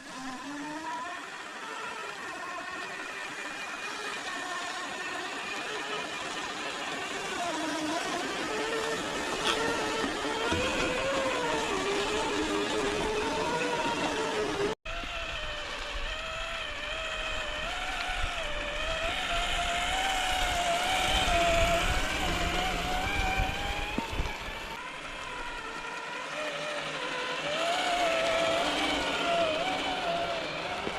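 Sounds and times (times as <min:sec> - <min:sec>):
electric motor whining: 0:00.0 - 0:30.9.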